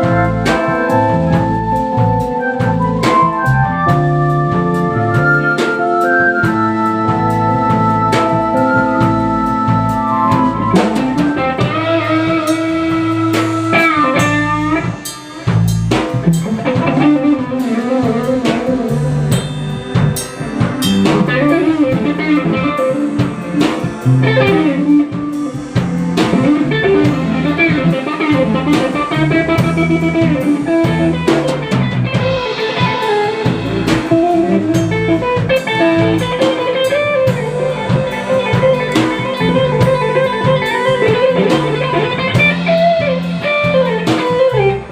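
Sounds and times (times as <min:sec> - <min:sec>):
bass: 0:00.0 - 0:44.9
drum kit beat: 0:00.0 - 0:44.9
guitar lead with bending notes: 0:00.0 - 0:44.9.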